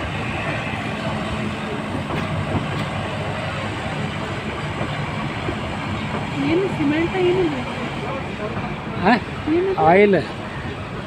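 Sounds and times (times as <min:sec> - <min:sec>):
rail car rumbling: 0:00.0 - 0:11.0.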